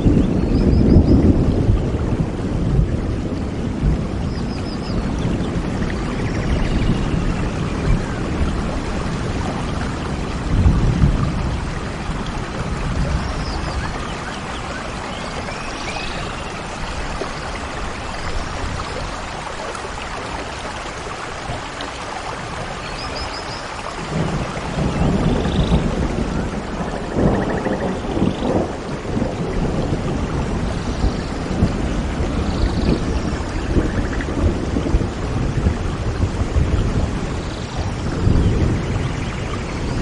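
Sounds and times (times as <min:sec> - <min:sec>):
flowing water rushing: 0:00.0 - 0:40.0
wind gusts on microphone: 0:00.0 - 0:40.0.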